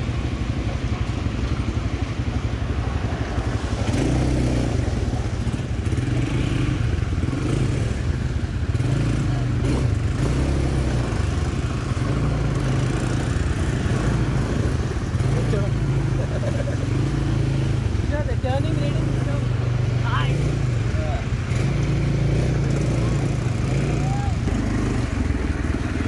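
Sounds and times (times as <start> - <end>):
quad bike engine running: 0.0 - 26.0.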